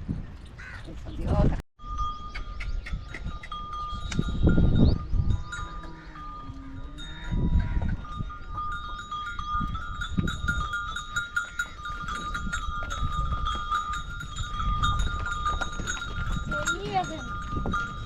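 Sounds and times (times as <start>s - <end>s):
livestock neck bells clinking: 1.8s - 18.0s.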